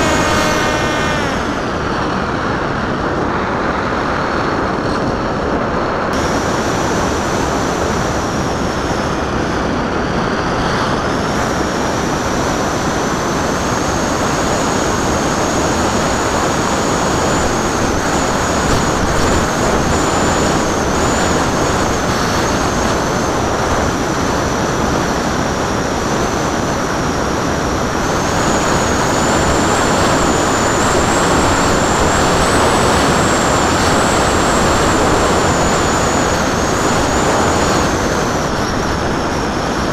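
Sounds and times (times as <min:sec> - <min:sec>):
electric motor and propeller whine: 0:00.0 - 0:39.9
wind rushing over camera: 0:00.0 - 0:39.9.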